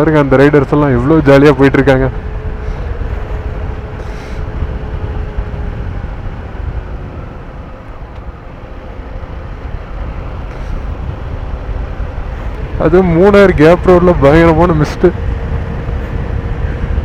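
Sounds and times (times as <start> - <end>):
motorcycle engine: 0.0 - 17.0
wind rumble on microphone: 0.0 - 17.0.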